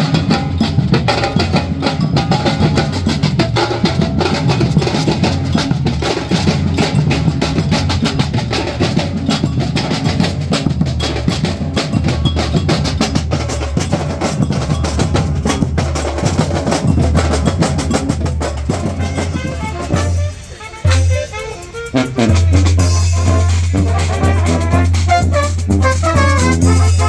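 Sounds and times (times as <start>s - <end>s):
rapid drum strikes: 0.0s - 27.0s.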